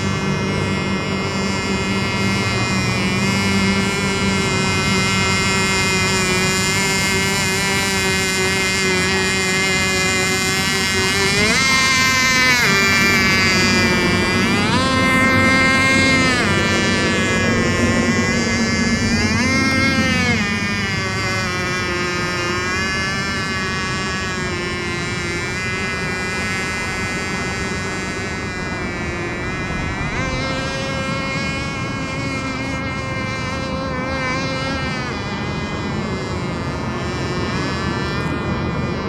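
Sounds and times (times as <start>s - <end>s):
model boat engine whine: 0.0s - 39.0s.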